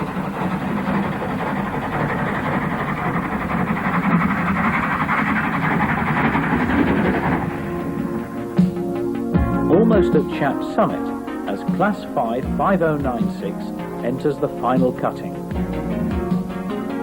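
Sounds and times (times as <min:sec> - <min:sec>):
passing train: 0:00.0 - 0:17.0
steam locomotive exhaust beats: 0:00.0 - 0:17.0.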